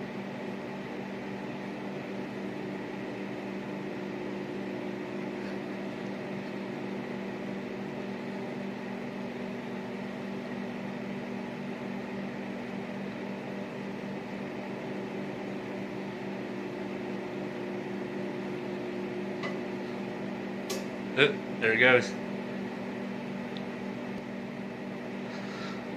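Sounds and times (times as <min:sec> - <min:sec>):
microwave oven humming: 0:00.0 - 0:25.9.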